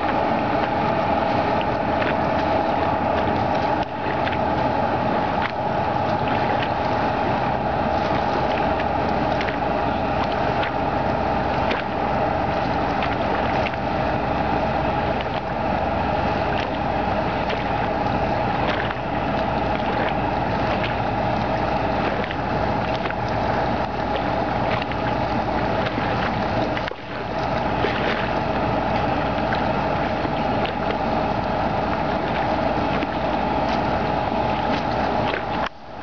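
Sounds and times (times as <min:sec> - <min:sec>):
ferry engine drone: 0:00.0 - 0:36.0.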